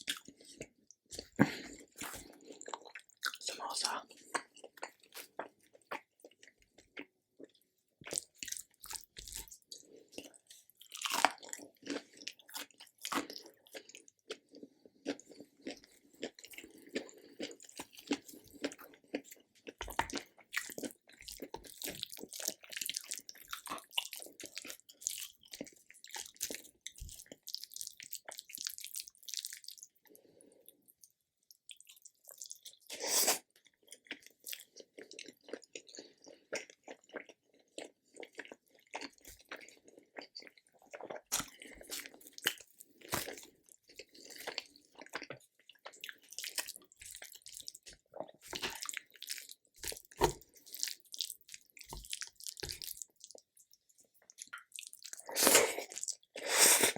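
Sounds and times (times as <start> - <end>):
pastry crunching while chewing: 0.0 - 30.2, 30.9 - 56.5.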